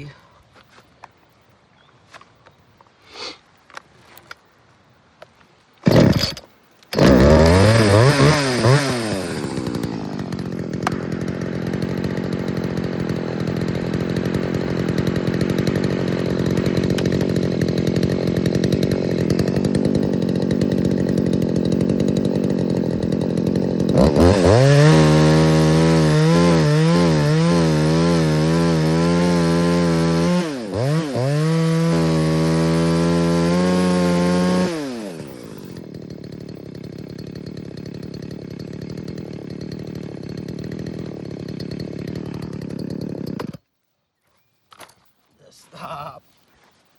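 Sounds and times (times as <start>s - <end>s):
chainsaw revving: 5.8s - 43.6s.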